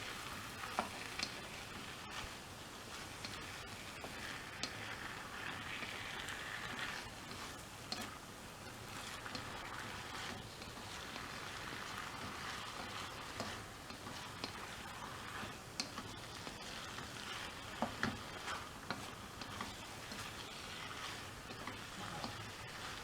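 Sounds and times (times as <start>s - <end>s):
food sizzling in a hot pan: 0.0s - 23.0s.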